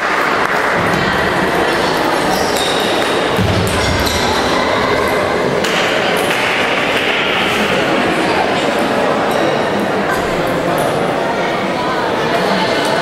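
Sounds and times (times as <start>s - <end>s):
noisy hall background: 0.0s - 13.0s.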